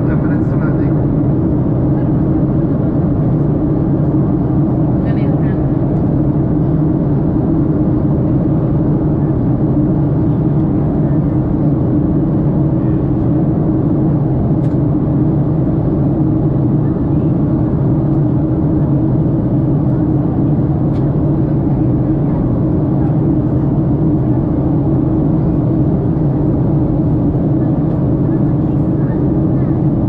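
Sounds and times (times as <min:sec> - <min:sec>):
jet engine and airflow drone: 0:00.0 - 0:30.0.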